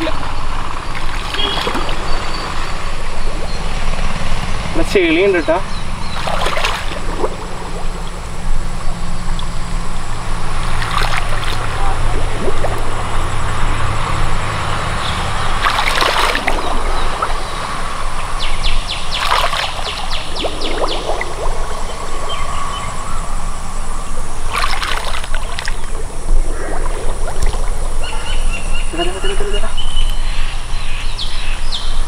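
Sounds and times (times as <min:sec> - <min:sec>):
low rumble: 0:00.0 - 0:31.2
wading through shallow water: 0:00.0 - 0:31.4.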